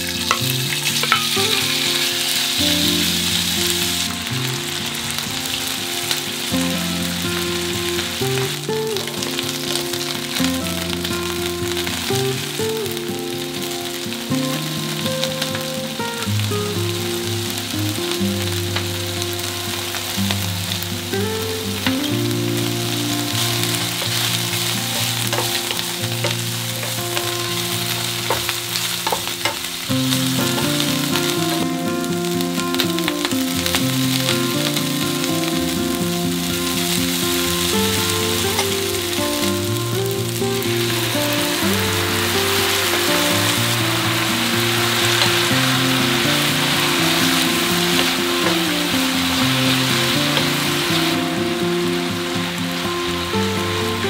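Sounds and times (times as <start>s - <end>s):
food sizzling in frying pan: 0.0s - 54.0s
soft background music: 0.0s - 54.0s.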